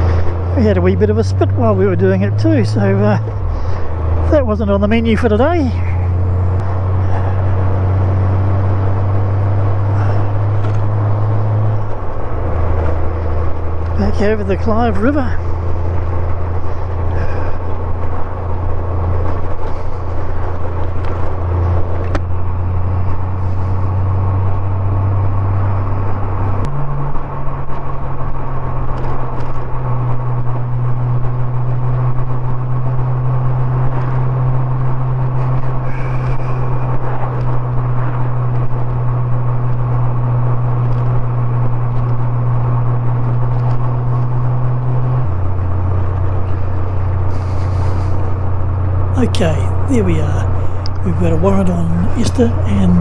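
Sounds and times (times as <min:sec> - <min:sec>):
road noise: 0:00.0 - 0:53.0.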